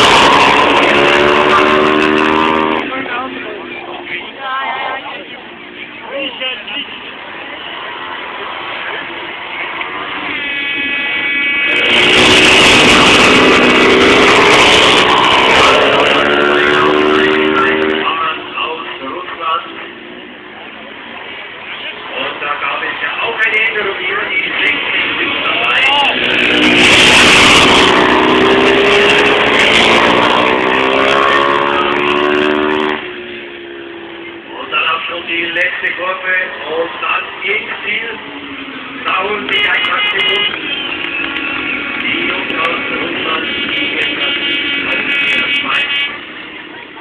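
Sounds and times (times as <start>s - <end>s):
motorcycle engines revving hard: 0.0s - 47.0s.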